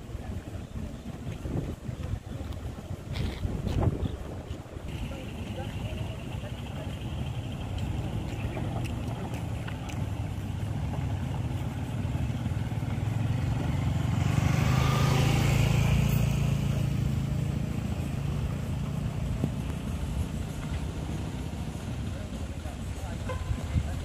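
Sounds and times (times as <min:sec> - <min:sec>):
vehicle engines humming: 0:00.0 - 0:24.0
motorcycle passing: 0:04.6 - 0:24.0.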